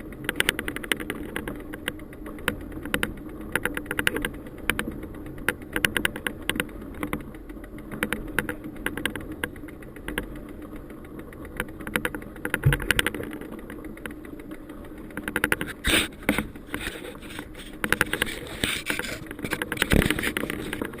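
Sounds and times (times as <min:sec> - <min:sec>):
bicycle rattling and clicking: 0:00.0 - 0:21.0
bicycle rolling on dirt trail: 0:00.0 - 0:21.0.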